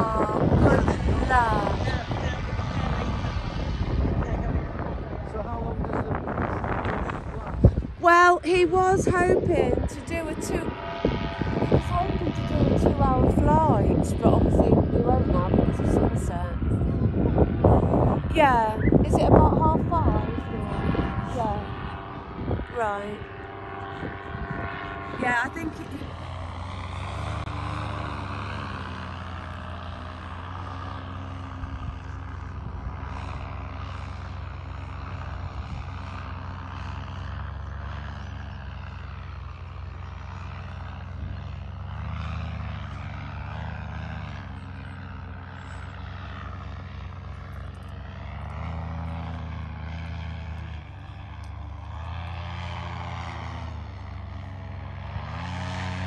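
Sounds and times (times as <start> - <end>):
propeller aircraft engine running: 0.0 - 56.0.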